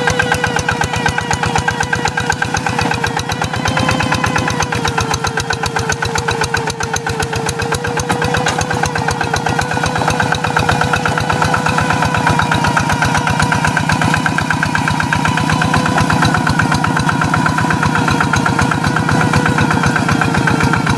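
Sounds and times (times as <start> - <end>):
diesel engine chugging: 0.0 - 20.9.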